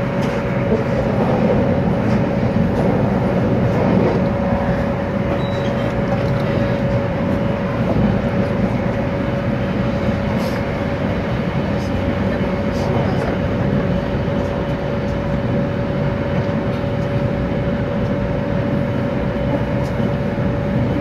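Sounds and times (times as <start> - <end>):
constant train whine: 0.0 - 21.0
train running rumble: 0.0 - 21.0.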